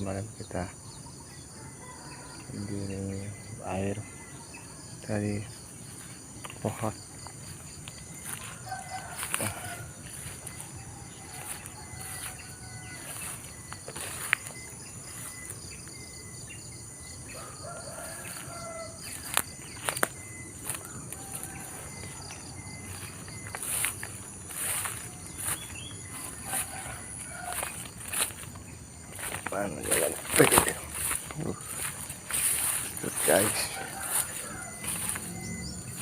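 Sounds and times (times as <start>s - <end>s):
high insect drone: 0.0s - 36.0s
pulsing chirps: 2.4s - 36.0s.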